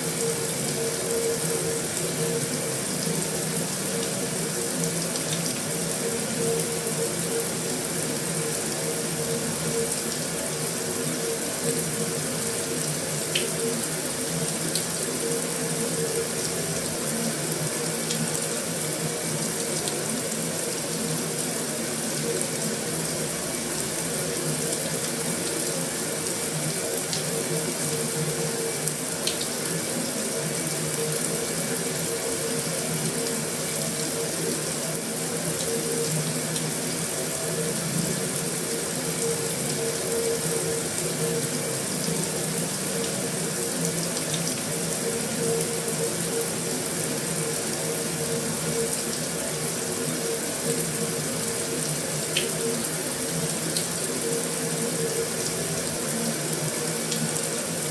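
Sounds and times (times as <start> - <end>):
heavy rain on a metal roof: 0.0 - 57.9.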